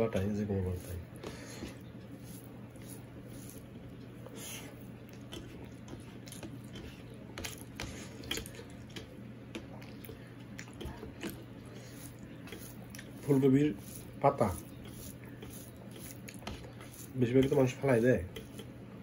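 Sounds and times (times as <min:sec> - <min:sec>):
fingers squishing rice: 0:00.1 - 0:19.0.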